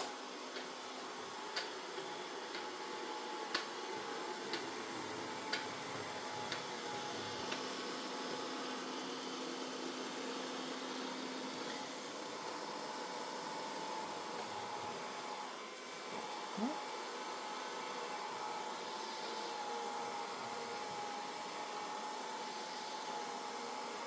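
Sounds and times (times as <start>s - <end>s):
robot vacuum humming: 0.0s - 24.0s.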